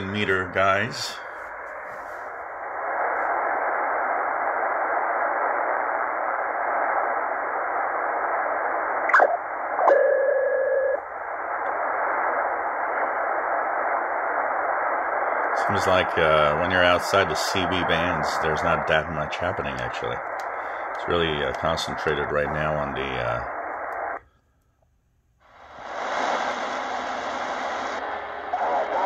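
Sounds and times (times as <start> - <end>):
radio chirp: 0.0 - 24.2, 25.4 - 29.0
radio static hiss: 0.0 - 24.2, 25.4 - 29.0
steady radio whistle: 0.0 - 24.2, 25.4 - 29.0.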